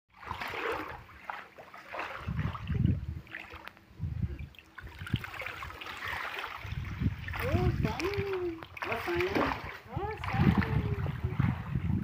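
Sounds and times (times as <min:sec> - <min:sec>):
water sloshing and splashing: 0:00.1 - 0:12.0.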